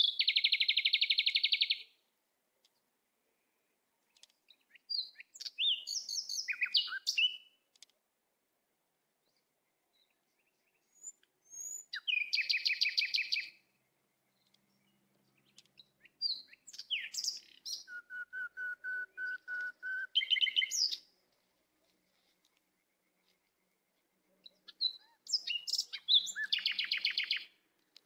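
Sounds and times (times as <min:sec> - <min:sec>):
small bird singing: 0:00.0 - 0:02.0, 0:02.6 - 0:07.9, 0:09.2 - 0:21.2, 0:22.0 - 0:28.0.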